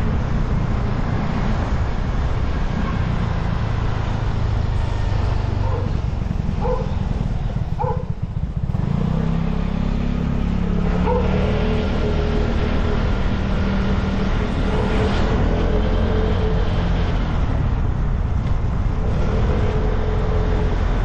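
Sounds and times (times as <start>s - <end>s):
road noise: 0.0s - 21.0s
scooter engine running: 4.1s - 21.0s.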